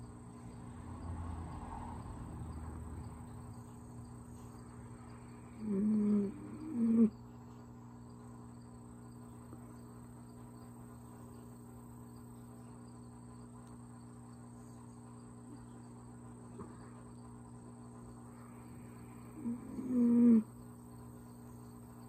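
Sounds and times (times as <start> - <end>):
high cricket-like trilling: 0.0 - 22.0
low steady hum: 0.0 - 22.0.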